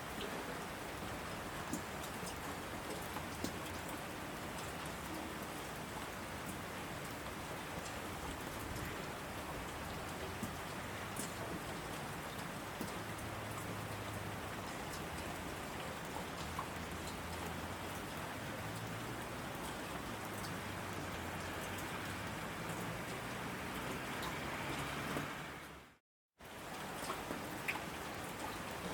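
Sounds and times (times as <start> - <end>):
heavy rain on asphalt: 0.0 - 28.9
raindrops ticking on road: 0.1 - 25.8, 26.4 - 28.9.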